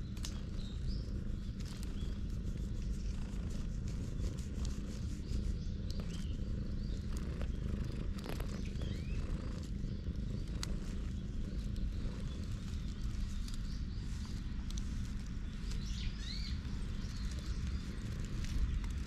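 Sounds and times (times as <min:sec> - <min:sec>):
cat purring: 0:00.0 - 0:19.0
dry leaves crackling: 0:00.0 - 0:19.0.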